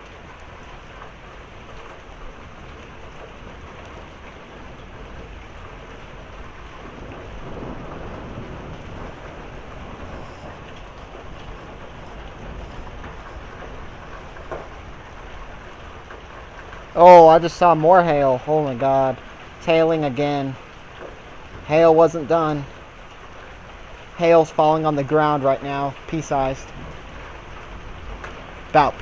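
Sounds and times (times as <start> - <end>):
heavy rain and hail: 0.0 - 29.0
thunder rumbling: 0.0 - 29.0.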